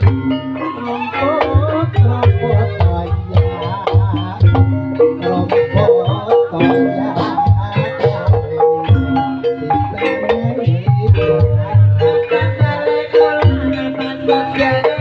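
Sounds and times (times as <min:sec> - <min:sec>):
heavy low drum beats: 0:00.0 - 0:15.0.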